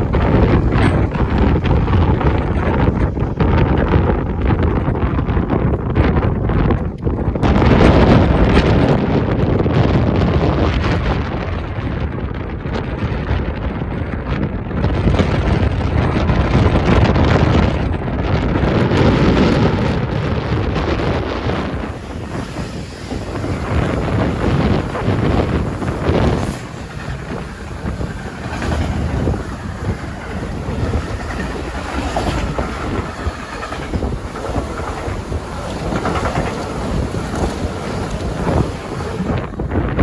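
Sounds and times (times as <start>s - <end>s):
train rumbling past: 0.0s - 40.0s
wind buffeting microphone: 0.0s - 40.0s.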